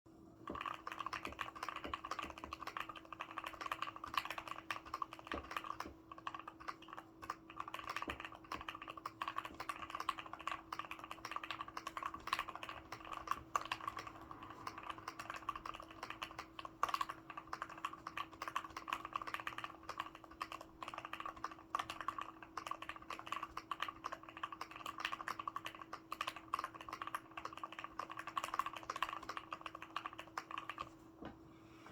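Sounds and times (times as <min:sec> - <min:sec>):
faint steady hum: 0:00.1 - 0:31.9
fast mechanical keyboard typing: 0:00.5 - 0:30.9.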